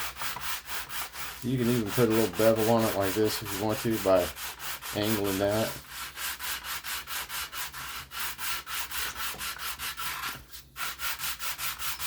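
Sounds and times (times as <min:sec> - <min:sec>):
plastic being sanded by hand: 0:00.0 - 0:12.0.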